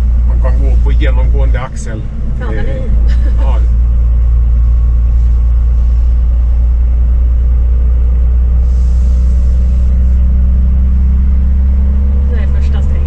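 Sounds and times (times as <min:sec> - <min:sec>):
truck engine brake drone: 0:00.0 - 0:13.0.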